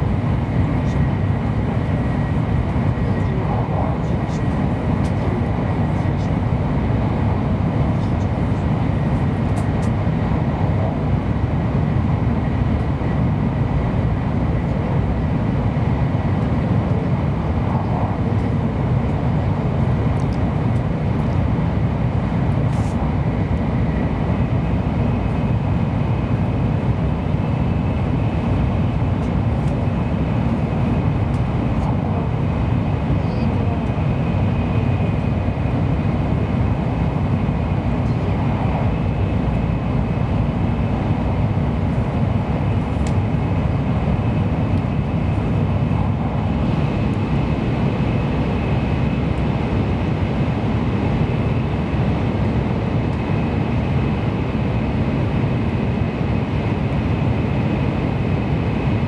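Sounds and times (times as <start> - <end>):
train cabin low rumble: 0.0 - 59.0.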